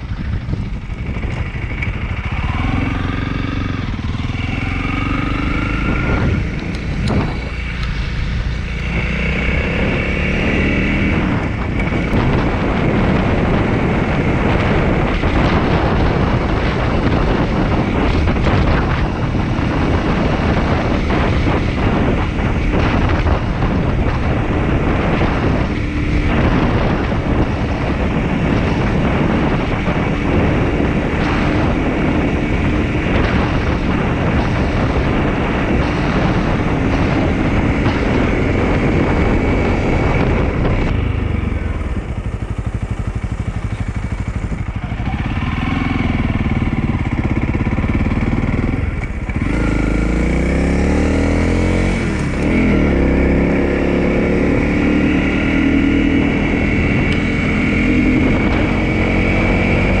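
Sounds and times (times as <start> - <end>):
motorcycle engine running: 0.0 - 60.0
wind rush on microphone: 0.0 - 60.0.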